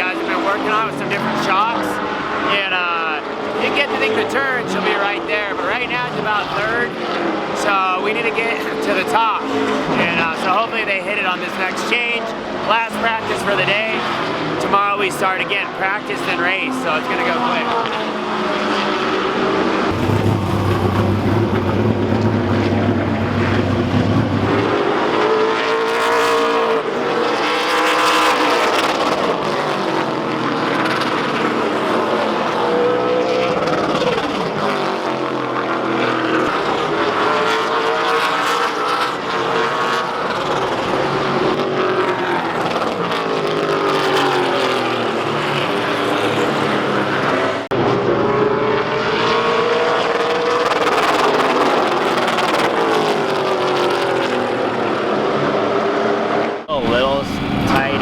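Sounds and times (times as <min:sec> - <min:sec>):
stock car engine racing: 0:00.0 - 0:58.0.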